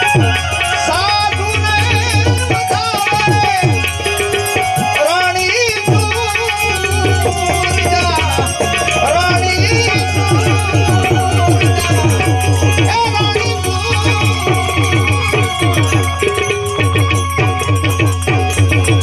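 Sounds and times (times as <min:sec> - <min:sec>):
fast hand-drum strokes: 0:00.0 - 0:19.0
rattling percussion: 0:00.0 - 0:19.0
wavering melody line: 0:00.0 - 0:19.0.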